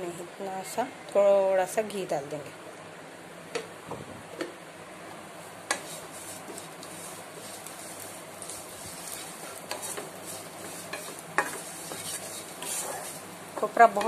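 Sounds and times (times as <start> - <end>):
faint sizzle in a pan: 0.0 - 14.0.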